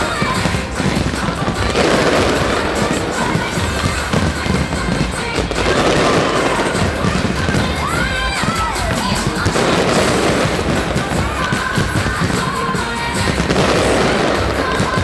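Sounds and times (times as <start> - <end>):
fireworks booming and crackling: 0.0 - 15.0
music: 0.0 - 15.0.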